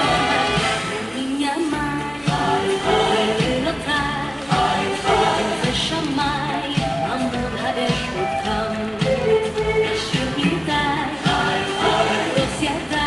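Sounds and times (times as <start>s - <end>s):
person singing over a beat: 0.0s - 13.0s.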